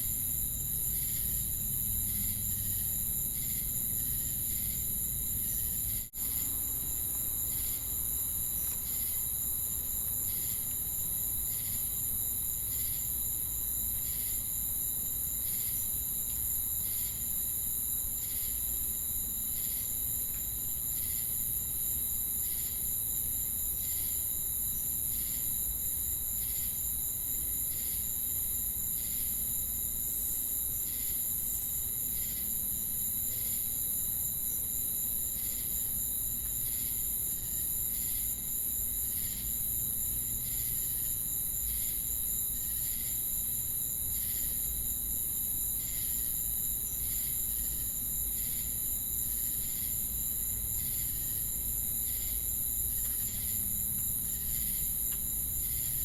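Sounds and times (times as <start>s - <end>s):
pulsing insect chirp: 0.0s - 26.9s, 27.5s - 56.0s.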